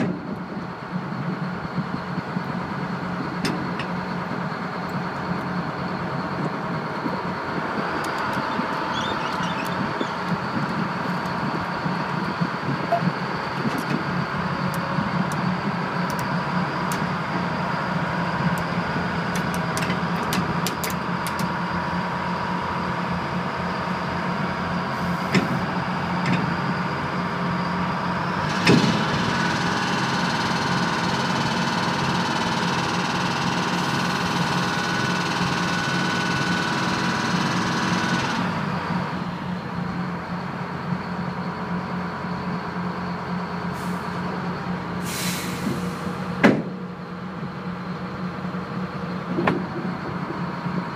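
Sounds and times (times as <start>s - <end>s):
diesel engine droning: 0.0s - 50.9s.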